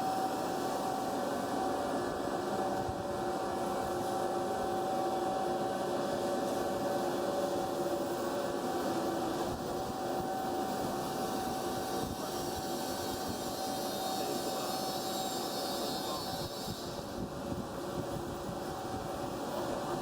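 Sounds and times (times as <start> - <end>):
drilling machine humming and whining: 0.0 - 20.0.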